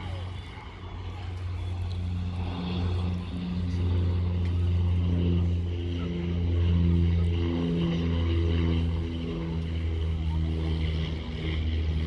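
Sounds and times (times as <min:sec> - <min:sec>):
low-pitched engine drone: 0:00.0 - 0:12.0.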